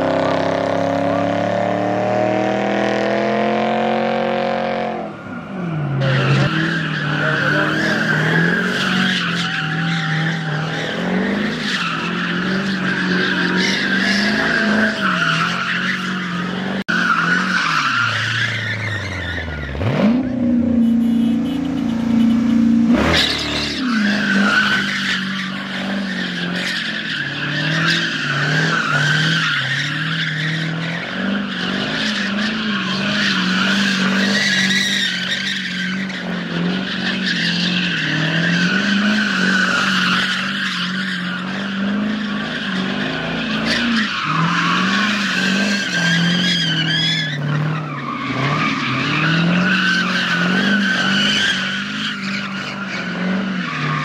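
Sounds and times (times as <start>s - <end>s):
car engine revving: 0.0s - 54.0s
tires squealing: 0.0s - 54.0s.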